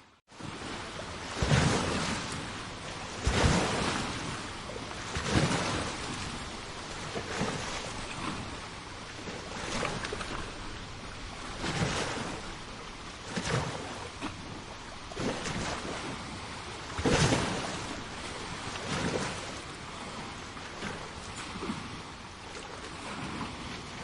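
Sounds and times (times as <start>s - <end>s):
small sea waves breaking on beach: 0.2s - 24.0s.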